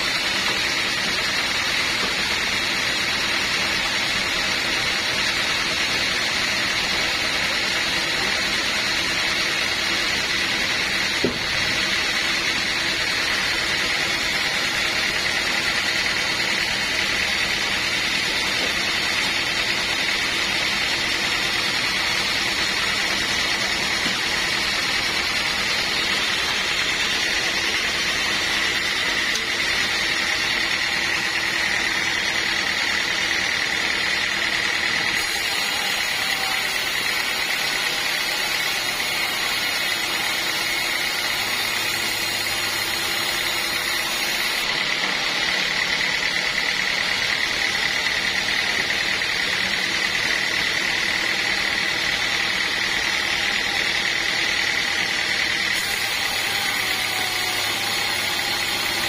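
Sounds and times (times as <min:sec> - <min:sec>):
band sawmill cutting log: 0:00.0 - 0:59.0.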